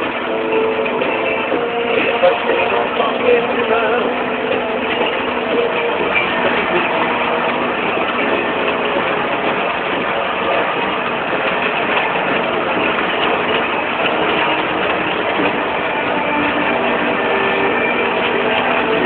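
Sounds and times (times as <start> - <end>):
tractor engine under load: 0.0 - 19.0.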